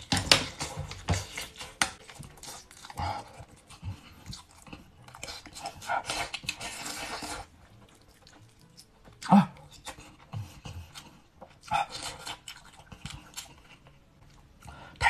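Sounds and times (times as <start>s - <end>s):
person chewing and smacking: 0.0s - 15.0s.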